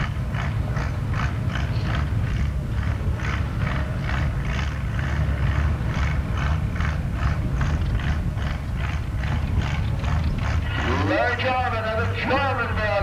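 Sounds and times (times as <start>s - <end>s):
rhythmic engine clatter: 0.0s - 13.0s
tractor engine rumbling: 0.0s - 13.0s.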